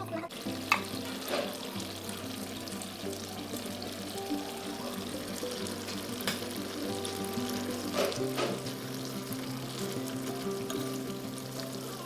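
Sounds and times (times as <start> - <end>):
background music with held notes: 0.0 - 12.0
liquid pouring hiss: 0.3 - 12.0.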